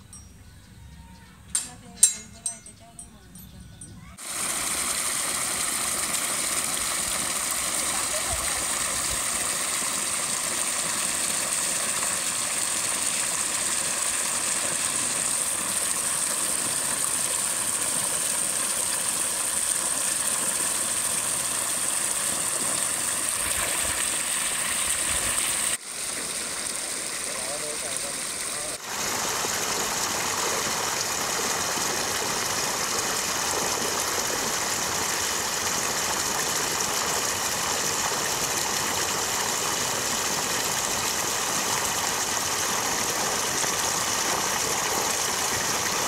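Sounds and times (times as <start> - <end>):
water gushing into basket: 4.2 - 46.0.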